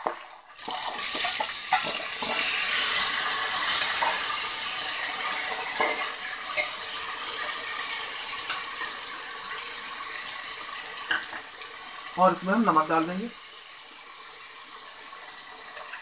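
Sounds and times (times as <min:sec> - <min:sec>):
chickpeas sizzling in hot oil: 0:00.0 - 0:16.0.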